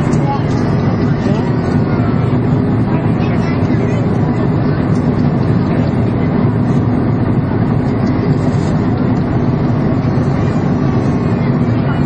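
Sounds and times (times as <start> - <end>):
jet engines droning in cabin: 0.0 - 12.0
rushing airflow: 0.0 - 12.0.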